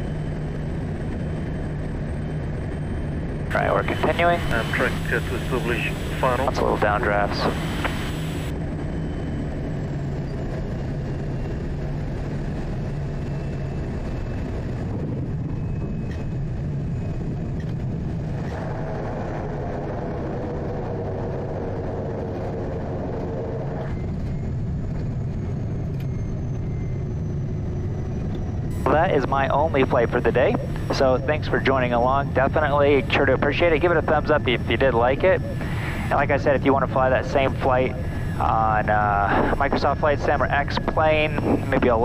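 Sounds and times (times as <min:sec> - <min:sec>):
high turbine whine: 0:00.0 - 0:42.0
turboprop engine and propeller: 0:00.0 - 0:42.0.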